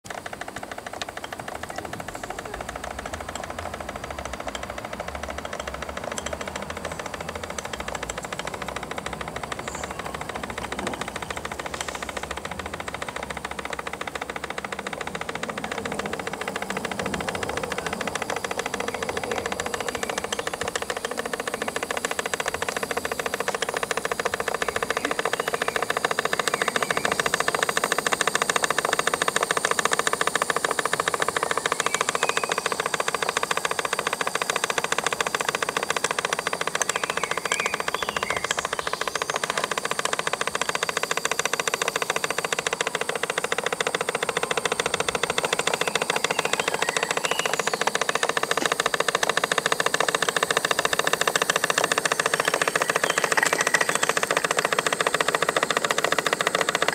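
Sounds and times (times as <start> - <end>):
model steam engine clattering: 0.0 - 56.9.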